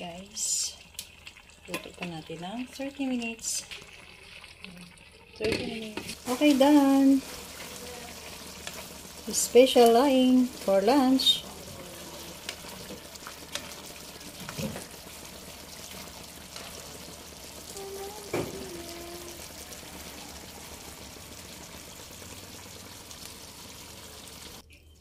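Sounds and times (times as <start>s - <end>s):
pot simmering and bubbling: 0.0s - 24.9s.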